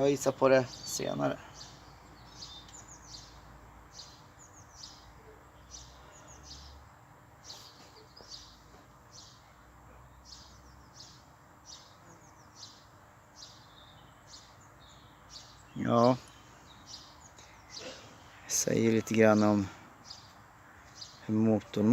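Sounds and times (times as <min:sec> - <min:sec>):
faint bird chirping: 0:00.0 - 0:21.9.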